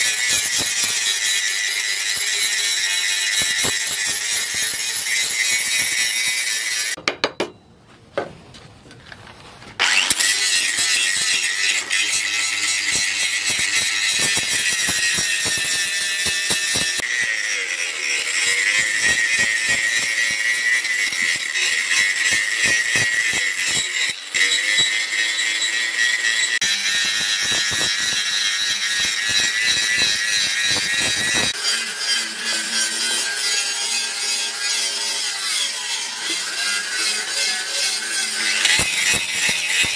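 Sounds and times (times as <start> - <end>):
angle grinder grinding metal: 0.0 - 7.0, 9.8 - 39.9.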